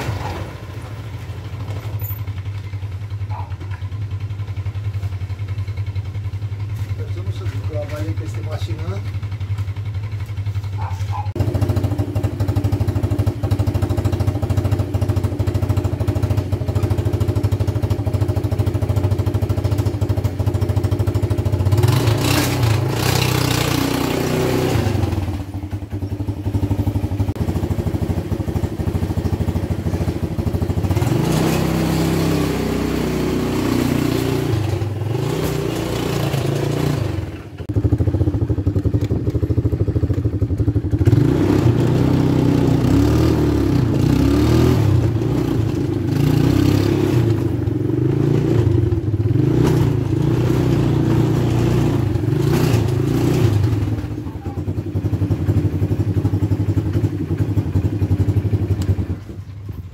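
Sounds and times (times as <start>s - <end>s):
atv engine idling and revving: 0.0s - 59.9s.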